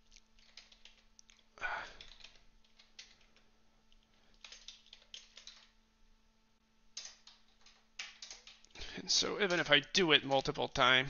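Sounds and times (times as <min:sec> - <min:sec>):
faint keyboard typing: 0:00.0 - 0:05.8, 0:06.9 - 0:11.0.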